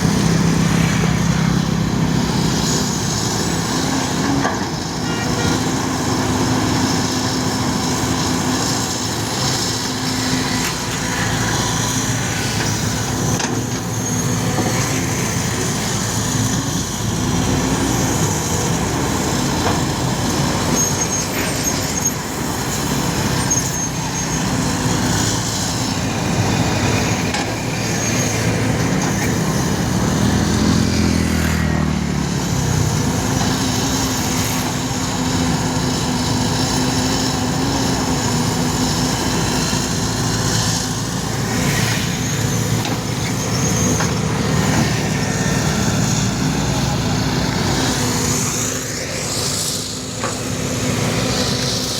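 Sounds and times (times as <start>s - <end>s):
bulldozer diesel engine running: 0.0s - 51.9s.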